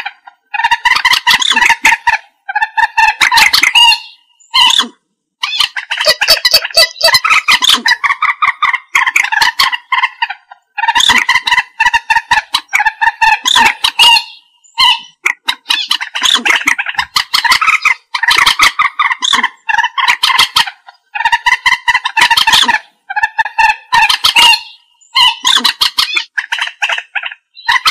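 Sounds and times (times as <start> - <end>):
moorhen harsh stuttering calls: 0.0 - 27.9.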